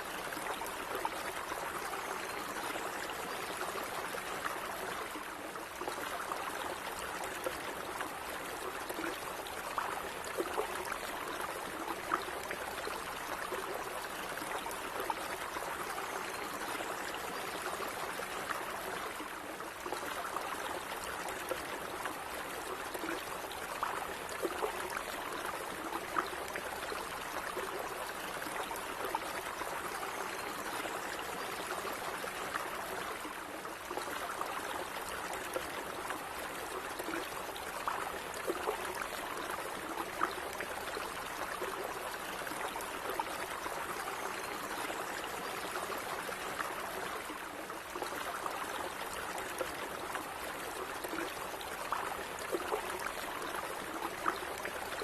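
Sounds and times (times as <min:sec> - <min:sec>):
stream trickling over stones: 0:00.0 - 0:55.0.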